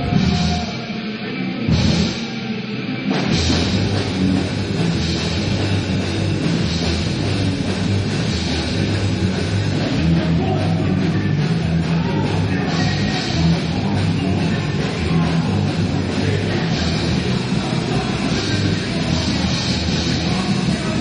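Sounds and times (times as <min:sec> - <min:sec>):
bass: 0:00.0 - 0:21.0
drum kit: 0:00.0 - 0:21.0
electric guitar: 0:00.0 - 0:21.0.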